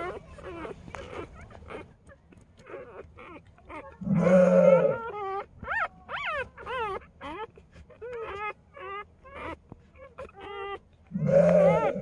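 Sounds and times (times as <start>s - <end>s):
puppies whimpering and squealing: 0.0s - 12.0s.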